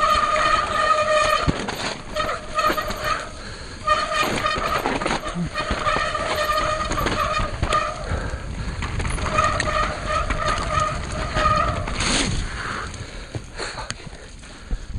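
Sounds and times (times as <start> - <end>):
freehub buzzing: 0.0 - 13.6
bike frame rattling: 0.0 - 14.9
bike tyres rumbling on gravel: 0.0 - 14.9.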